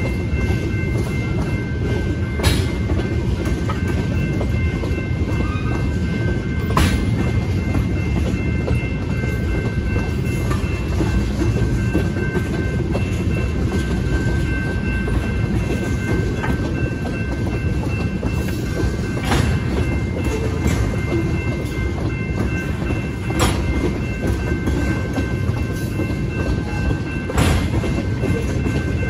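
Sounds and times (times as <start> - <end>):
train wheels rumbling on rail: 0.0 - 29.0
wheels clacking over rail joints: 0.0 - 29.0.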